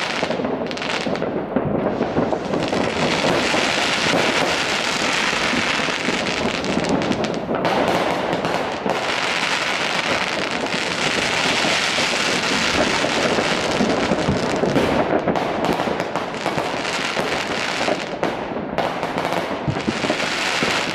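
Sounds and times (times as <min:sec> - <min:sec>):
fireworks banging and crackling: 0:00.0 - 0:20.9.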